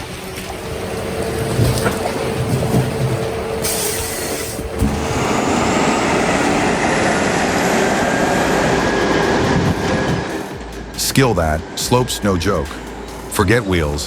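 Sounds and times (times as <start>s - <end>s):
heavy logging machinery running: 0.0s - 14.0s
faint thin whine rising: 0.2s - 13.4s.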